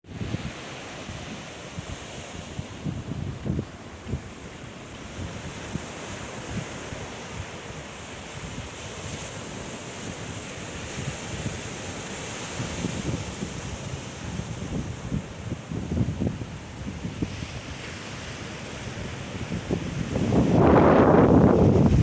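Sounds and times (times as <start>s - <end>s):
ocean surf washing: 0.0s - 22.0s
wind buffeting microphone: 0.0s - 22.0s.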